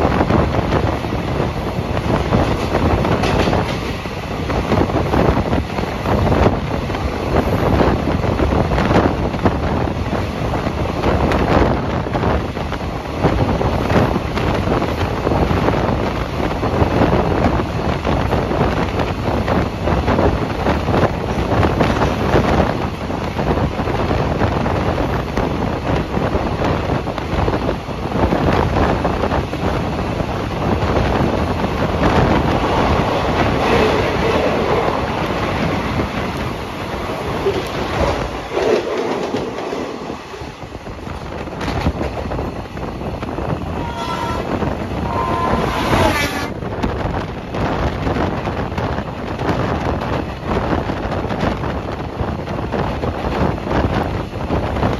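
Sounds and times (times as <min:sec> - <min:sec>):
train wheels rumbling on rails: 0:00.0 - 0:54.9
wind blowing on microphone: 0:00.0 - 0:54.9.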